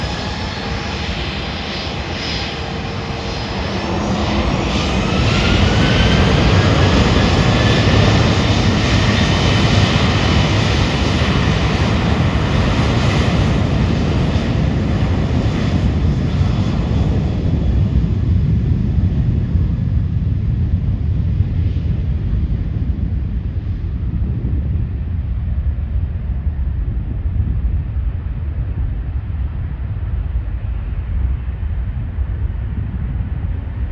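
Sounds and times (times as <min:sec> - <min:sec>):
jet engines roaring at takeoff: 0:00.0 - 0:33.9.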